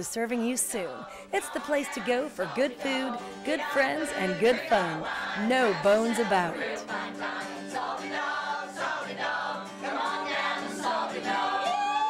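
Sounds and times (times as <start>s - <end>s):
music: 0.0s - 12.0s
group singing: 0.4s - 12.0s.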